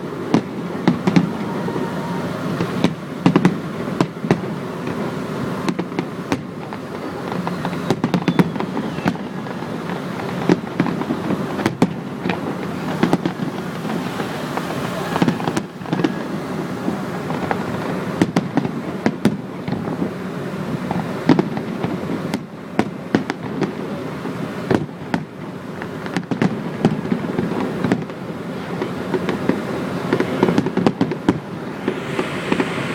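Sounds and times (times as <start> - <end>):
fireworks crackling and banging: 0.0 - 32.9.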